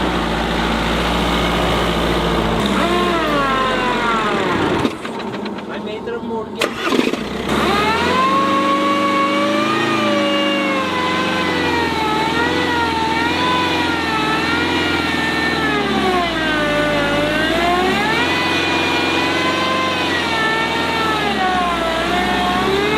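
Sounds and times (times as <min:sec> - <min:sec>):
diesel engine revving under load: 0:00.0 - 0:22.9.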